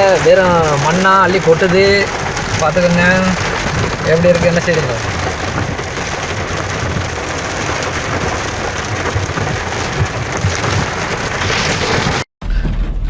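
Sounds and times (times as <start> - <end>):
heavy rain on a car: 0.0 - 12.8.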